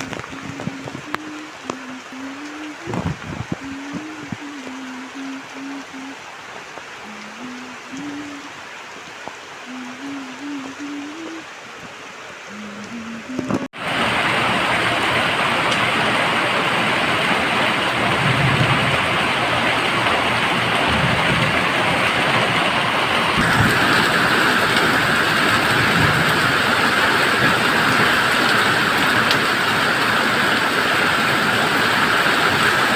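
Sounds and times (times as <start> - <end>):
rain falling steadily: 0.0 - 32.9.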